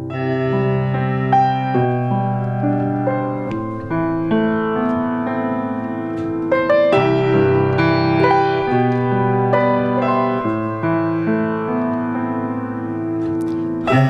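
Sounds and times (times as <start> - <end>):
slow keyboard chords: 0.0 - 14.0.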